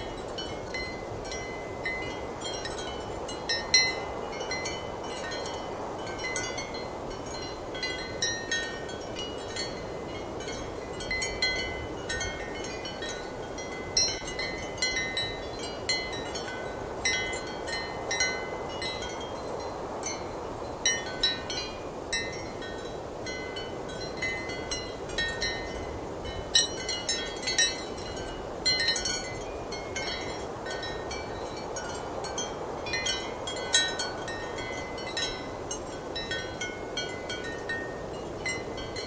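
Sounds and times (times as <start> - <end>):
ceramic wind chimes clinking: 0.0 - 39.0.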